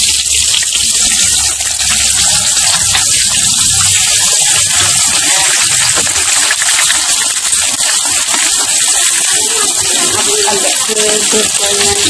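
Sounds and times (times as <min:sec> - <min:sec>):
egg sizzling in oil: 0:00.0 - 0:12.0.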